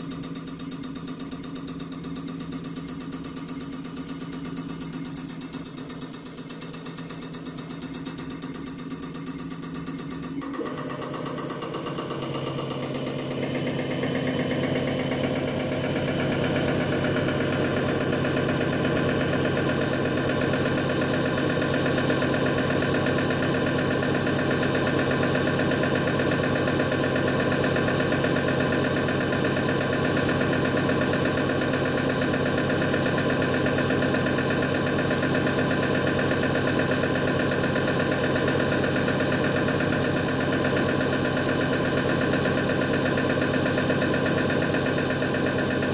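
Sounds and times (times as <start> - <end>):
test bench machine hum: 0.0 - 45.9.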